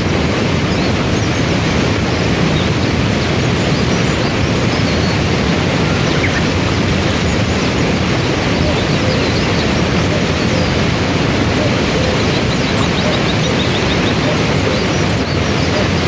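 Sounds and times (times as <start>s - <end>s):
roar of white water: 0.0s - 16.0s.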